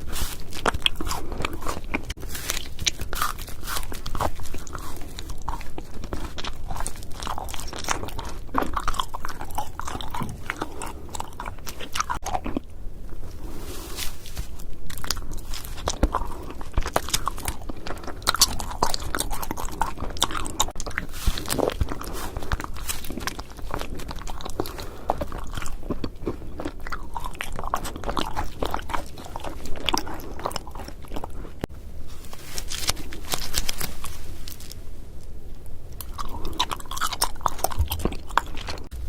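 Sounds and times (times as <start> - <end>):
chewing crunchy sweets: 0.0 - 39.0.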